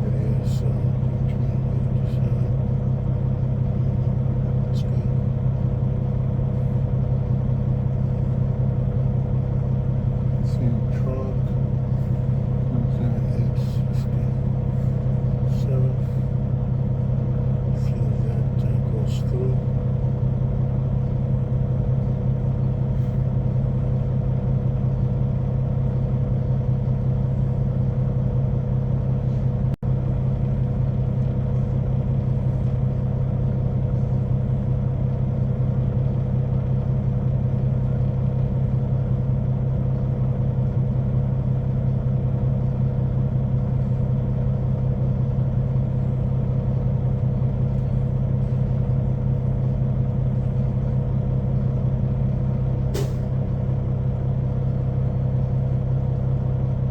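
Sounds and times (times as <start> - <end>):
diesel truck engine idling: 0.0 - 56.9.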